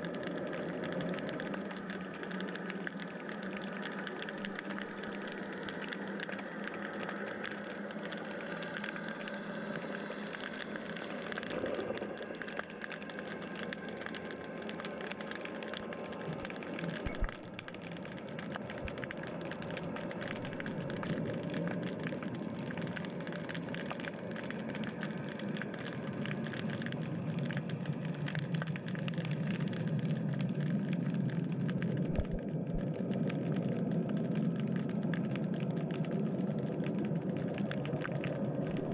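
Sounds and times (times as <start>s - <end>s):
fine underwater crackle: 0.0s - 38.9s
motor hum through water: 0.0s - 38.9s.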